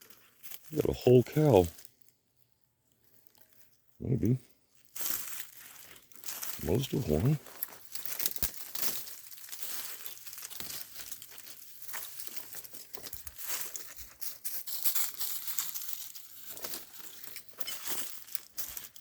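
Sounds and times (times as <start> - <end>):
dry leaves rustling and crunching: 0.0 - 2.1, 3.0 - 3.7, 4.7 - 19.0.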